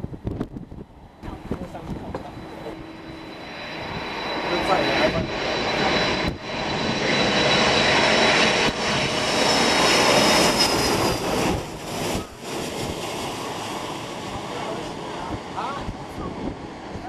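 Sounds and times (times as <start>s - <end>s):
jet airliner passing overhead: 0.0s - 17.0s
jet fan whine: 0.0s - 17.0s.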